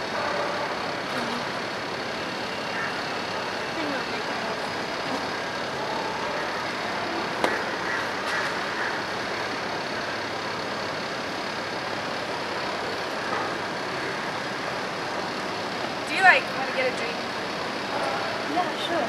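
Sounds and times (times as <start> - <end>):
courtyard background hiss and hum: 0.0 - 19.0.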